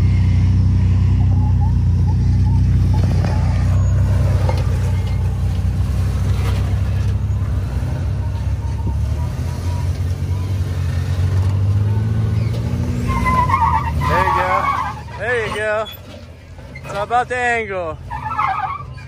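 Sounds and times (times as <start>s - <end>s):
truck engine low drone: 0.0s - 19.0s.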